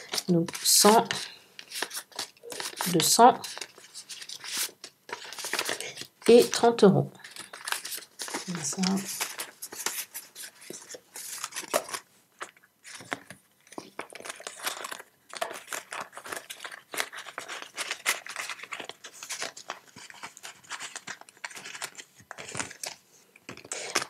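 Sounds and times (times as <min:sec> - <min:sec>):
banknotes and envelope rustling: 0:00.0 - 0:24.0.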